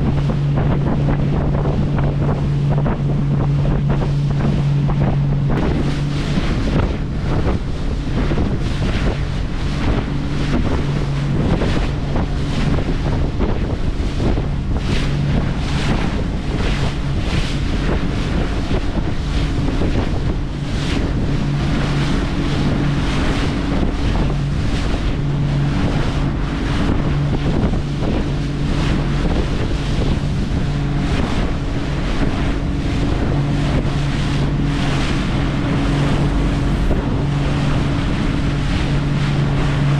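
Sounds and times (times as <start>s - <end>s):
boat engine humming: 0.0s - 39.9s
waves washing: 0.0s - 39.9s
wind buffeting microphone: 0.0s - 39.9s.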